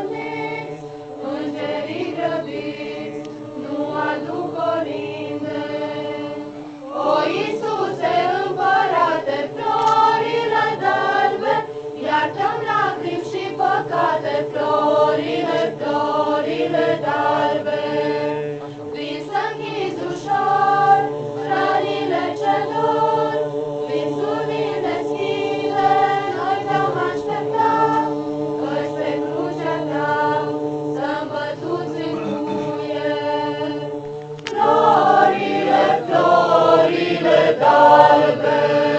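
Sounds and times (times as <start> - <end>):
group singing carol unaccompanied: 0.0 - 38.9.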